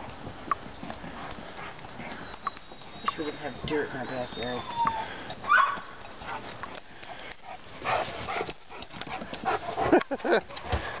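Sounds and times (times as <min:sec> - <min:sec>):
dogs scuffling on dirt: 0:00.0 - 0:11.0
dogs panting: 0:00.7 - 0:11.0.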